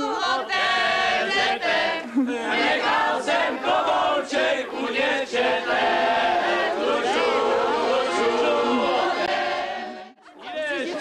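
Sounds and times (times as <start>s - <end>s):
group of people singing a folk song: 0.0s - 10.2s.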